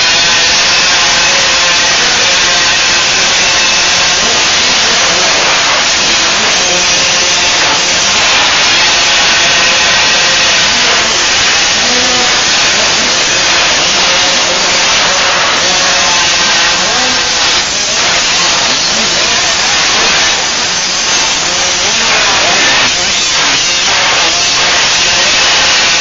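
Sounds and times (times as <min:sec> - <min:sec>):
motocross bike engines buzzing: 0:00.0 - 0:26.0.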